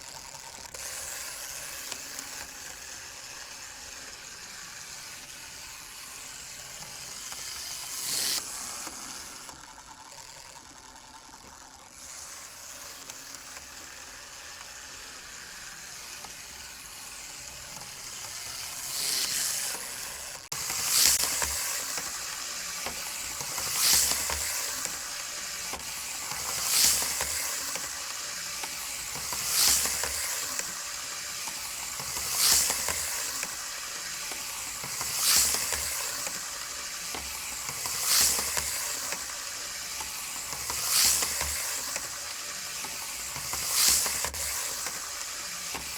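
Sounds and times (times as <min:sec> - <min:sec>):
model train motor hissing: 0:00.0 - 0:45.9.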